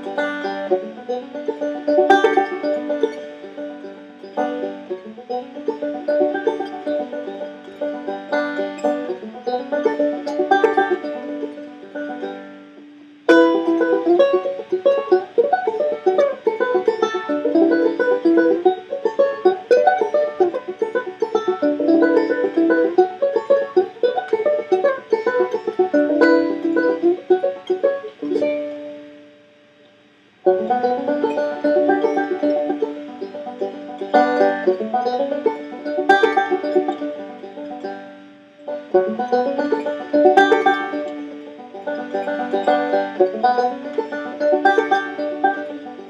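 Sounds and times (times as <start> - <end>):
banjo picking: 0.0 - 46.0.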